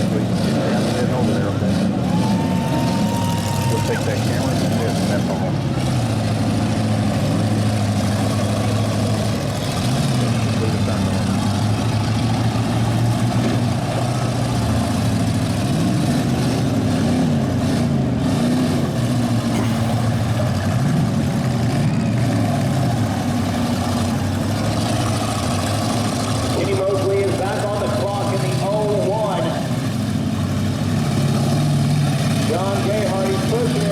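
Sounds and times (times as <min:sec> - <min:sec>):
car engines idling and revving: 0:00.0 - 0:33.9.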